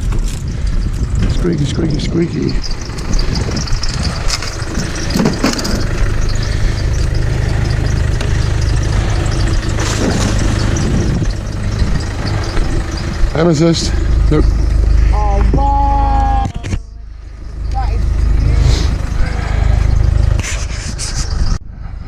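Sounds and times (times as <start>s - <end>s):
car engine running: 0.0s - 21.6s
squeaky fan belt: 0.0s - 21.6s
low rumble: 0.0s - 22.0s.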